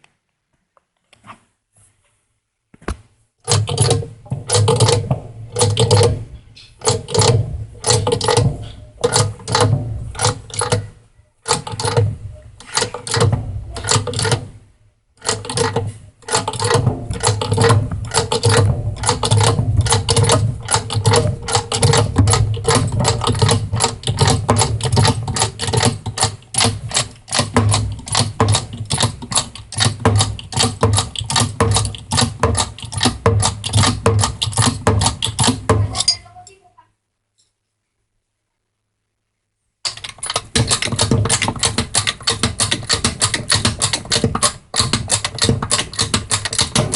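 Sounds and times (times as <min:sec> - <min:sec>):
hand tools clicking and tapping: 0:03.5 - 0:14.5, 0:15.2 - 0:36.2, 0:39.9 - 0:46.9.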